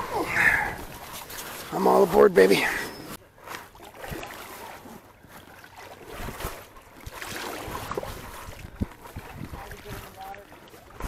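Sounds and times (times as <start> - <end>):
paddles splashing in water: 0.0 - 11.0.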